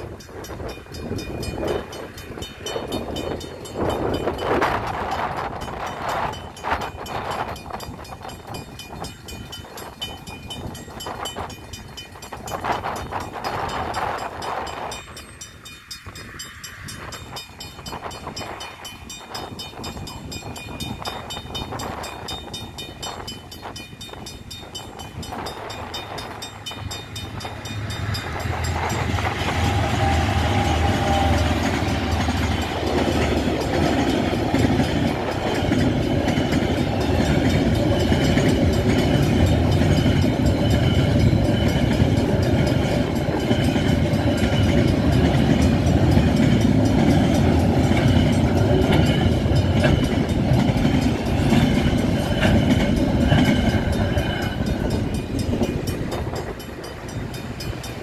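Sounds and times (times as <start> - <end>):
crossing warning bell ringing: 0.0 - 58.0
train rumble and wheel noise: 0.0 - 58.0.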